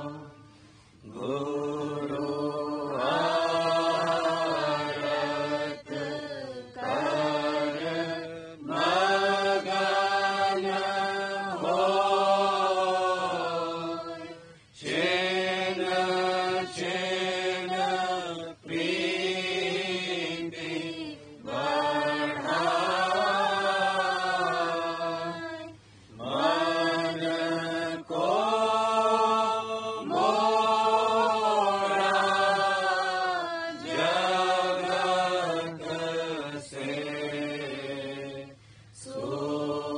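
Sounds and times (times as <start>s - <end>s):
person chanting a hymn: 0.0s - 39.9s.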